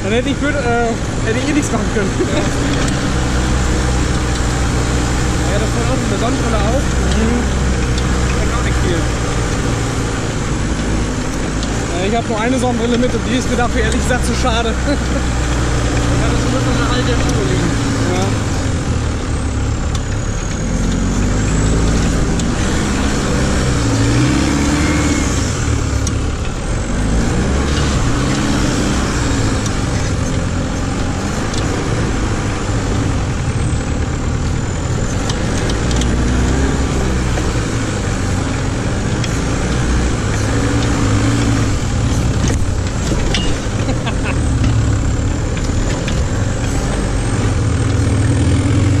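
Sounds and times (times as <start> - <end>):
buggy engine revving: 0.0 - 49.0.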